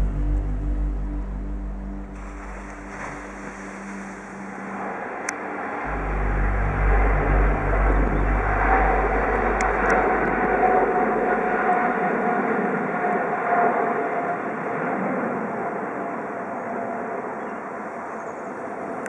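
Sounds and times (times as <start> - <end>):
jet engines roaring: 2.2 - 18.0.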